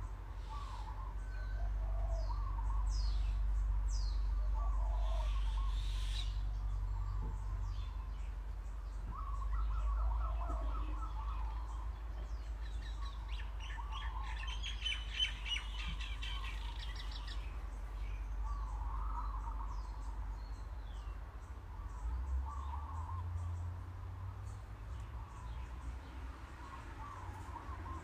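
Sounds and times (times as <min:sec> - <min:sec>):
small birds chirping and singing: 0:00.0 - 0:28.0.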